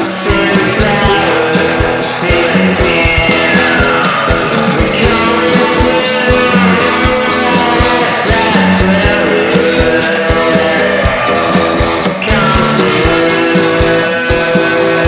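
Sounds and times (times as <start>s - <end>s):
gliding electric guitar: 0.0s - 15.0s
steady drum beat: 0.0s - 15.0s.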